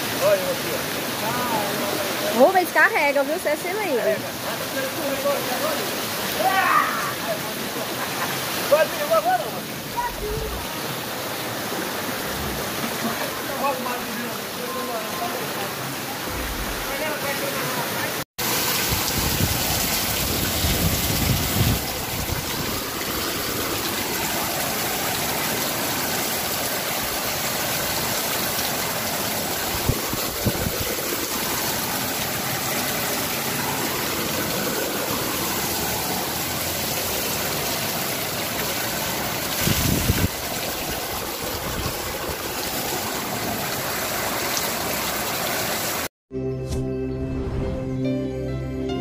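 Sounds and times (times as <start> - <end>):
floodwater rushing: 0.0 - 46.1.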